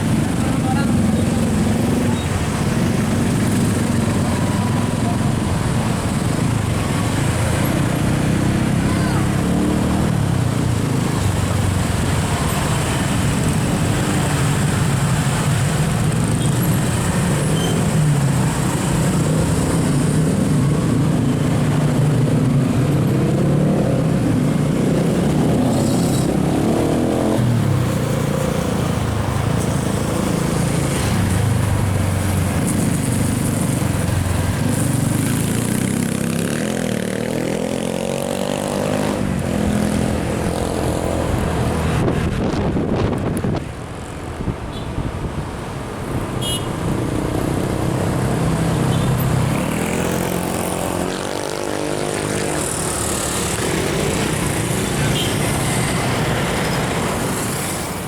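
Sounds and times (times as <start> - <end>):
vehicle engines in traffic: 0.0 - 58.0.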